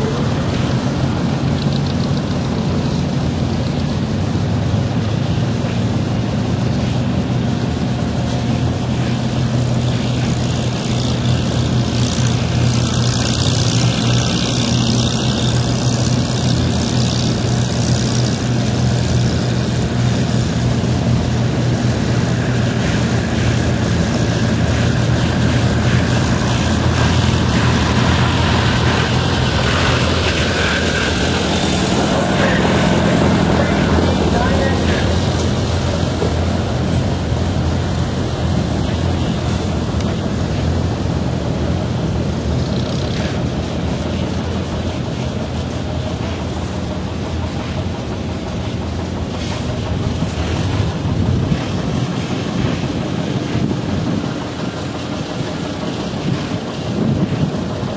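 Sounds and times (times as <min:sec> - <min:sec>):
engine droning with hiss: 0:00.0 - 0:57.9.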